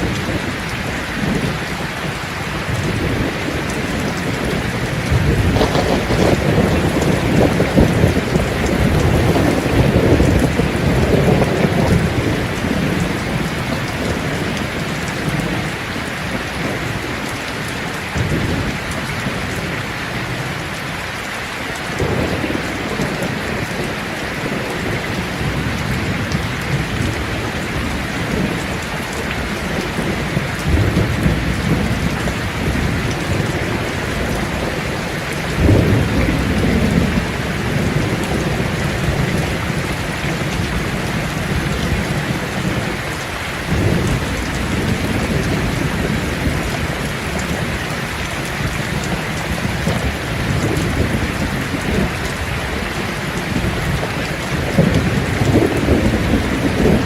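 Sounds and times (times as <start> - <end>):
distant thunder rumbling: 0.0 - 18.8, 22.0 - 57.0
heavy rain hissing: 0.0 - 57.0.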